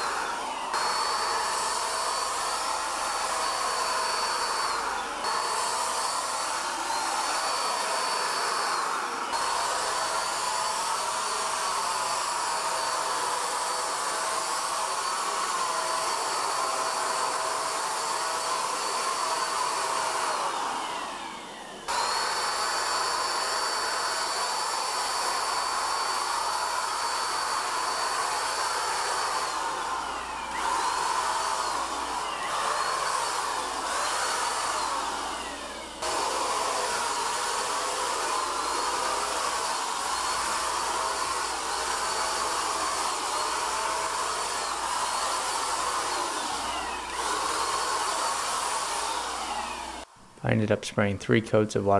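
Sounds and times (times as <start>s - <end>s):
electric paint sprayer running: 0.0s - 50.3s.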